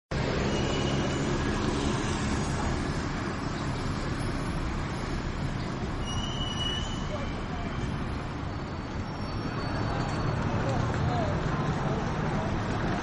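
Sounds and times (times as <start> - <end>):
street traffic noise: 0.1 - 13.0.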